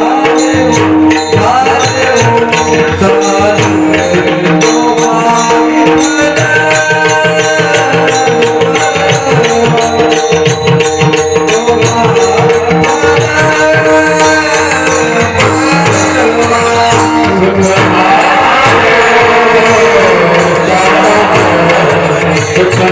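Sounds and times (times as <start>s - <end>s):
jingling percussion: 0.0s - 22.9s
tabla drumming: 0.0s - 22.9s.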